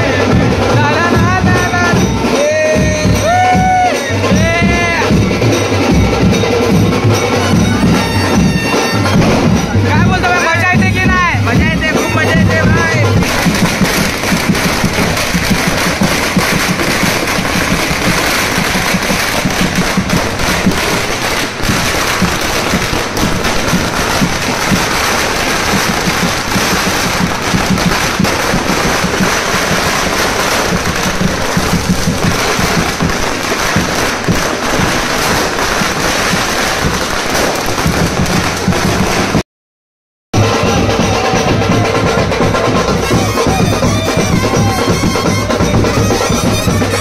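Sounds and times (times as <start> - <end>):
firecrackers crackling: 0.0 - 39.4, 40.4 - 47.0.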